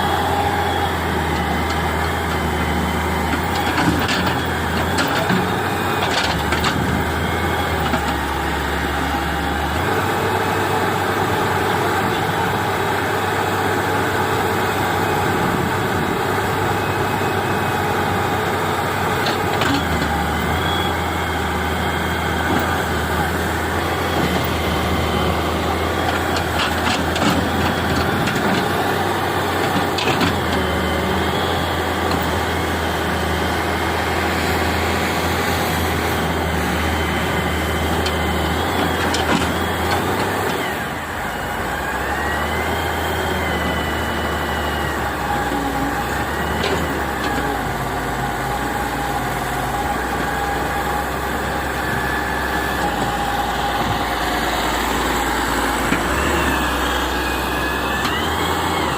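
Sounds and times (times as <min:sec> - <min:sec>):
excavator diesel engine running: 0:00.0 - 0:58.9
thin hydraulic whine: 0:00.0 - 0:58.9.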